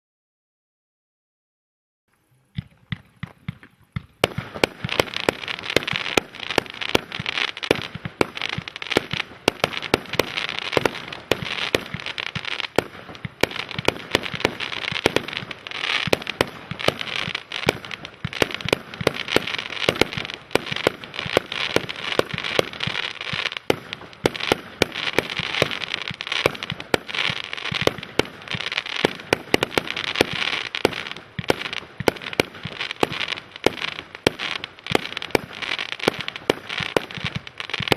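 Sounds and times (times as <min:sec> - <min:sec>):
hiss of burning fireworks: 0:02.1 - 0:37.9
firework reports: 0:02.5 - 0:37.9.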